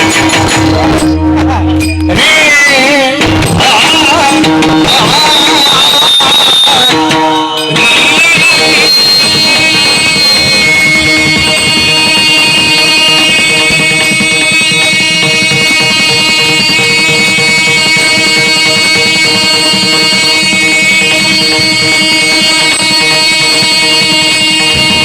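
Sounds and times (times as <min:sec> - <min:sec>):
instrumental accompaniment: 0:00.0 - 0:25.0.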